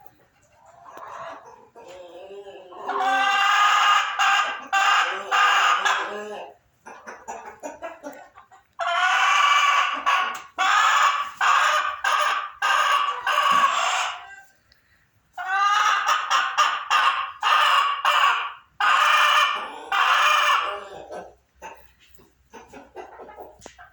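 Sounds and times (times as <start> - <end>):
hen cackling: 0.6 - 14.5, 15.4 - 21.9.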